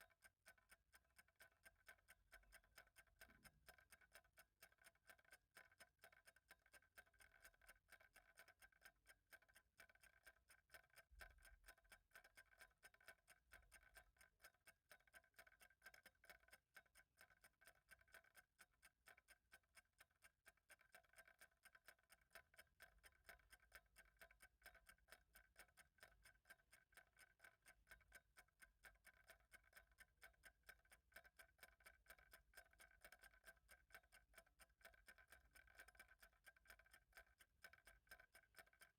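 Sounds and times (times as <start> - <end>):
faint clock ticking: 0.0 - 38.9.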